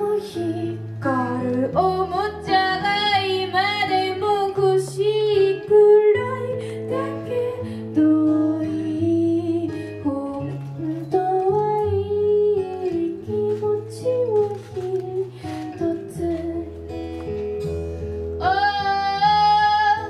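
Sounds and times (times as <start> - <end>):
song with guitar and bass: 0.0 - 20.0.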